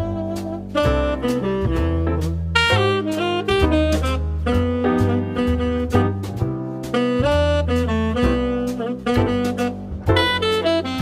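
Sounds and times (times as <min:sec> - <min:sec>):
bass: 0:00.0 - 0:11.0
saxophone melody: 0:00.0 - 0:11.0
steady beat: 0:00.0 - 0:11.0.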